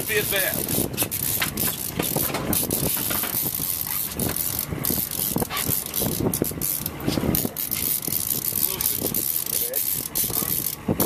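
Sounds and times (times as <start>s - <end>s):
fishing reel clicking: 0.0s - 11.0s
low steady rumble: 0.0s - 11.0s.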